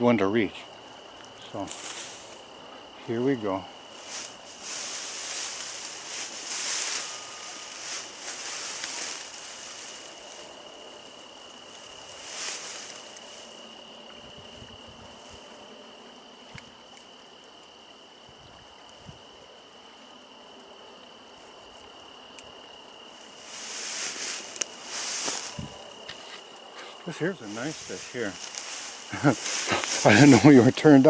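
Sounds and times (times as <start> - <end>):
crickets trilling: 0.0 - 31.0
rustling hiss: 0.4 - 31.0.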